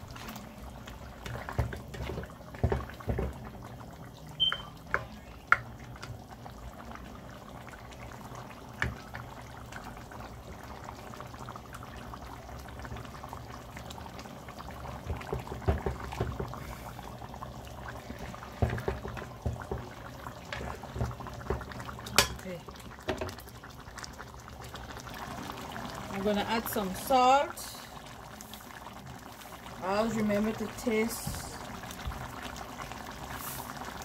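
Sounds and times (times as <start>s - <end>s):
stew bubbling: 0.0s - 34.0s.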